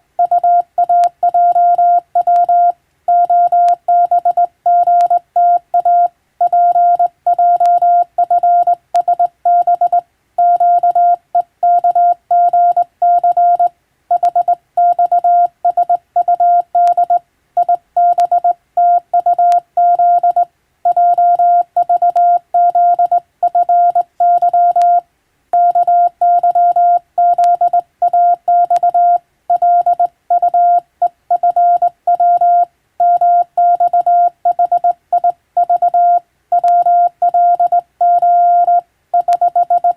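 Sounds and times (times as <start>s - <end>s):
morse code beeps: 0.2s - 25.0s, 25.6s - 39.9s.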